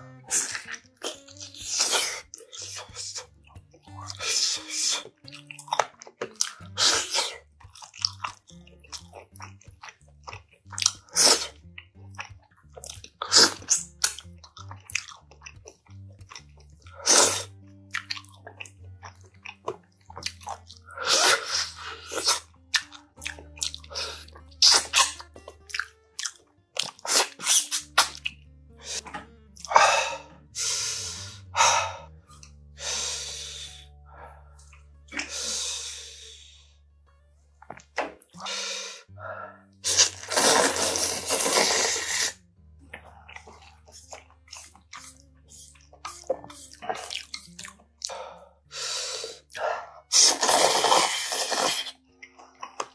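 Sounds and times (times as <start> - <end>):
noodle slurping: 0.1 - 3.4, 4.0 - 36.6, 38.2 - 42.4, 43.0 - 52.0
chewing and lip-smacking: 0.3 - 30.3, 33.3 - 35.4, 39.8 - 48.4, 49.4 - 52.9.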